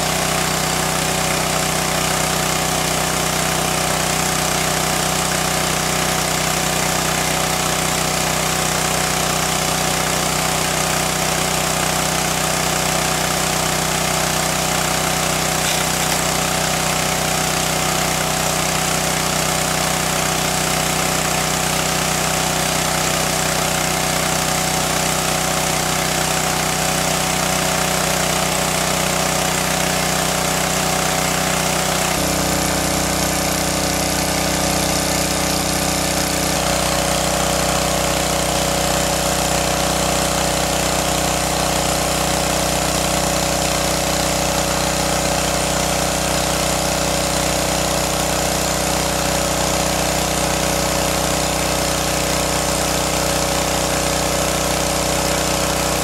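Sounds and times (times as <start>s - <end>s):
water pump engine droning: 0.0s - 56.0s.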